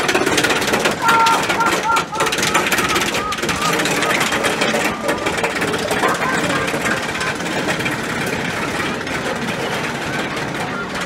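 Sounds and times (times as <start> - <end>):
coaster train clattering on track: 0.0 - 11.0.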